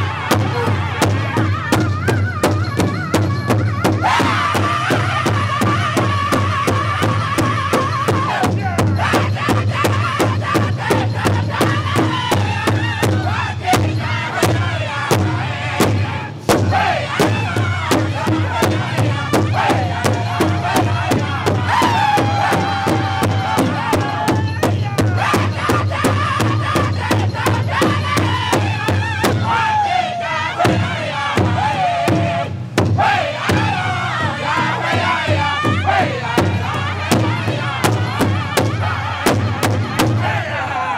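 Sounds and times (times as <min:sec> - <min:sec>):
large drum steady beat: 0:00.0 - 0:40.5
men singing high voices: 0:00.0 - 0:40.9.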